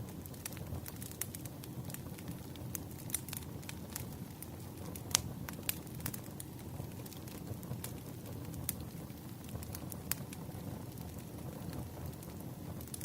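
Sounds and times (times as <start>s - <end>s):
low rumble of burning logs: 0.0s - 13.0s
wood fire pops and snaps: 0.0s - 13.0s.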